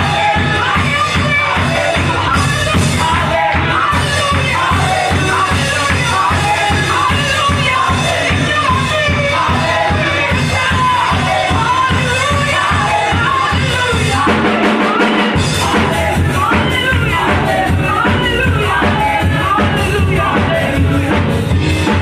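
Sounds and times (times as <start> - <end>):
woman singing into a microphone: 0.0 - 21.3
gospel music with steady beat: 0.0 - 22.0.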